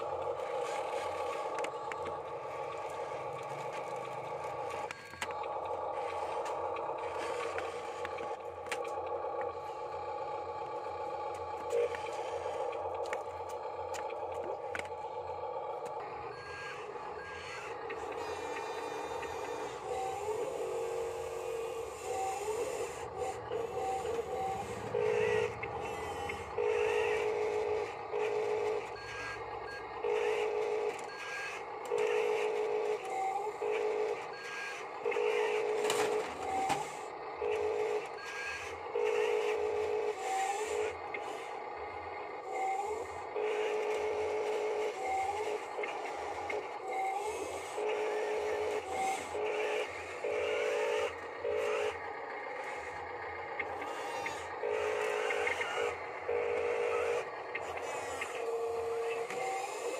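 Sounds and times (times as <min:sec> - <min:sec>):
small electric motors whining: 0:00.0 - 0:59.9.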